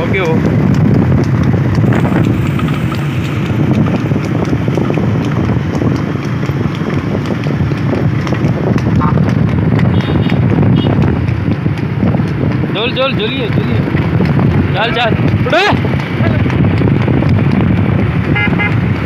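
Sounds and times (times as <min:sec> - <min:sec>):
horse hoofbeats: 0:00.0 - 0:19.0
wind buffeting microphone: 0:00.0 - 0:19.0.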